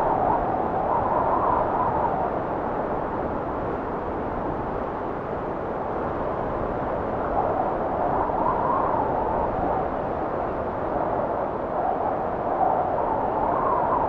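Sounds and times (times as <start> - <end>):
blizzard wind blowing: 0.0 - 14.0.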